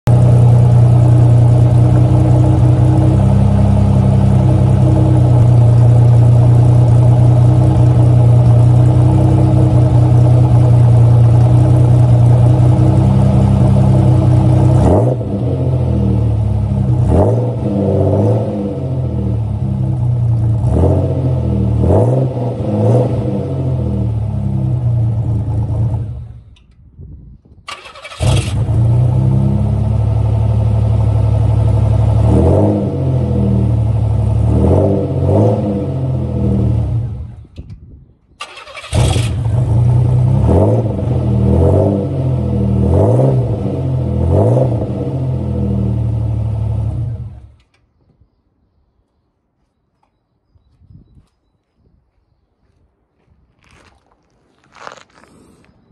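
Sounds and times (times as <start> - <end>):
car engine idling and revving: 0.1 - 26.8, 27.7 - 37.8, 38.4 - 47.8, 54.2 - 55.9.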